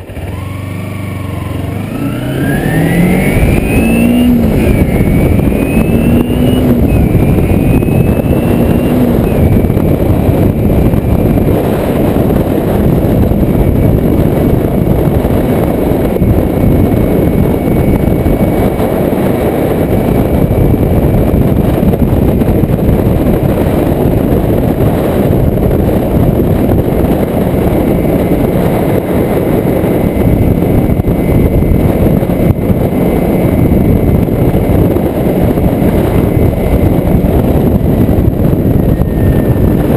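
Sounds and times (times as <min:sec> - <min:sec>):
motorcycle engine revving: 0:00.0 - 0:39.9
wind rushing on microphone: 0:00.0 - 0:39.9.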